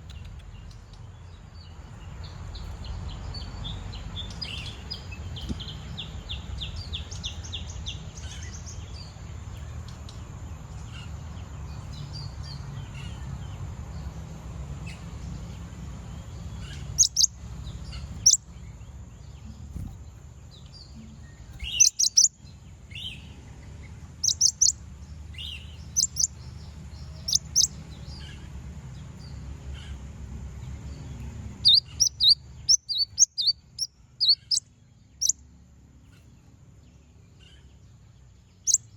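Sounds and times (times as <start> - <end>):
bird chirping: 0.0 - 14.1, 14.8 - 38.9
steady low hum: 0.0 - 38.9.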